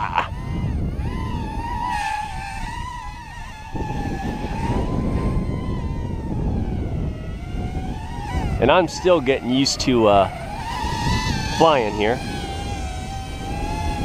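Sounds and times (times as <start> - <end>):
drone motors whining: 0.0 - 14.0
wind on microphone: 0.0 - 14.0.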